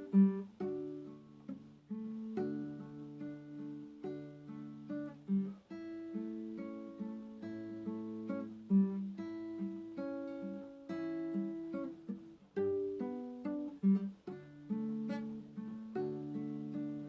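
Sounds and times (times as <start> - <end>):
acoustic guitar piece: 0.0 - 17.0.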